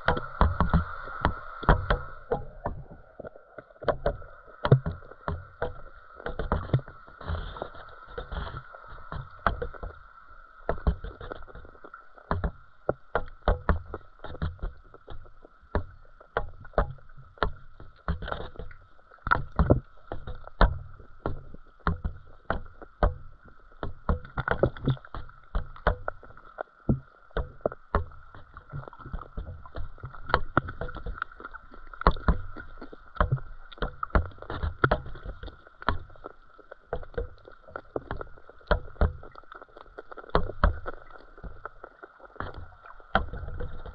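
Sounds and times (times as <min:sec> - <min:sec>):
underwater high hum: 0:00.0 - 0:43.9.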